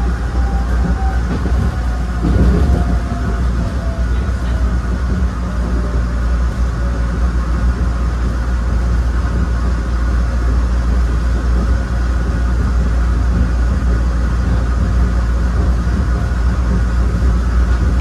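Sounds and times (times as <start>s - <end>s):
light-rail car running on track: 0.0s - 18.0s.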